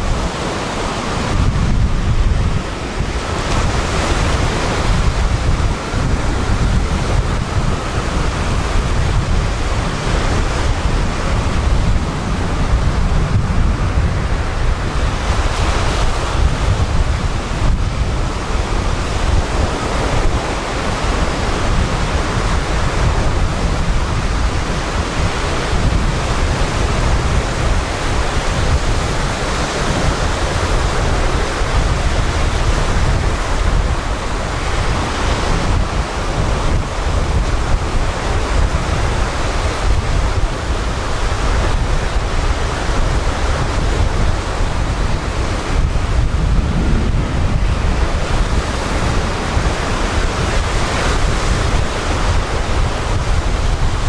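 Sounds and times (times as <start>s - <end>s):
sea waves on pebbly beach: 0.0s - 54.0s
wind buffeting microphone: 0.0s - 54.0s.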